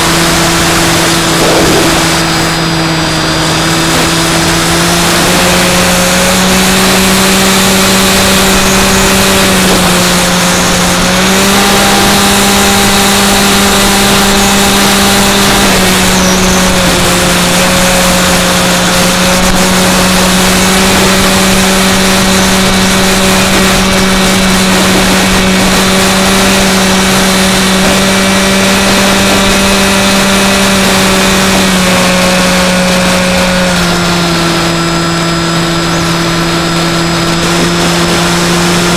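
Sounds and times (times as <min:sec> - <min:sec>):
electric motor and propeller hum: 0:00.0 - 0:38.9
wind rush: 0:00.0 - 0:38.9.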